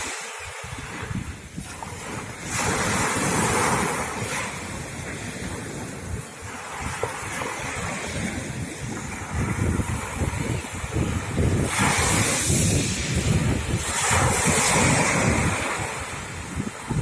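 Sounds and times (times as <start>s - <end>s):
sea waves breaking on shore: 0.0s - 17.0s
wind rumble on microphone: 0.0s - 17.0s.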